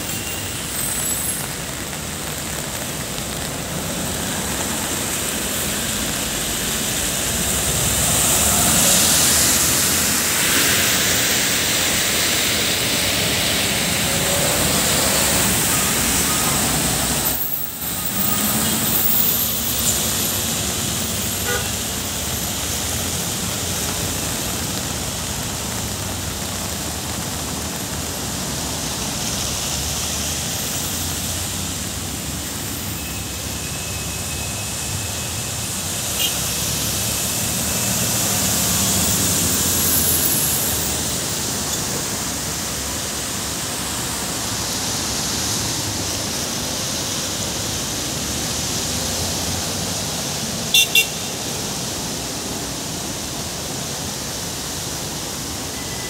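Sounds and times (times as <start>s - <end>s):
traffic running: 0.0s - 55.7s
tyre hiss on wet road: 0.0s - 56.0s.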